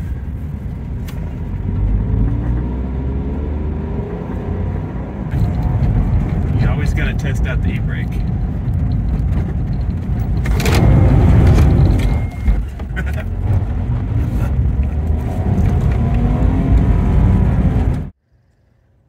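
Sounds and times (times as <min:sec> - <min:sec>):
car engine running under load: 0:00.0 - 0:18.2
road noise: 0:00.0 - 0:18.8.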